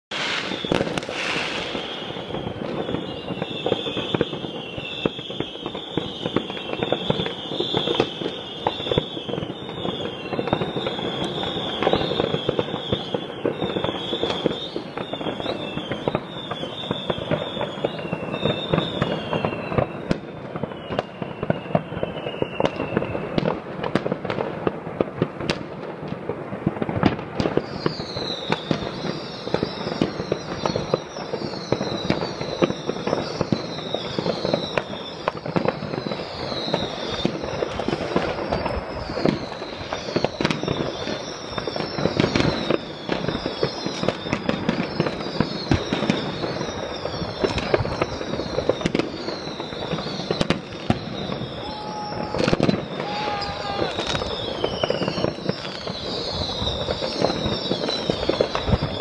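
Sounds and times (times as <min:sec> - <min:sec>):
falling high whistles: 0:00.1 - 0:23.3, 0:27.6 - 0:59.0
fireworks crackling and banging: 0:00.1 - 0:59.0.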